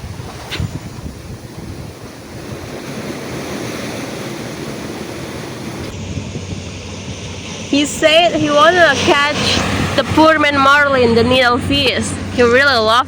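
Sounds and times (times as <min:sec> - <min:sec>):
ocean surf washing over rocks: 0:00.0 - 0:12.3
wind buffeting microphone: 0:00.0 - 0:13.0.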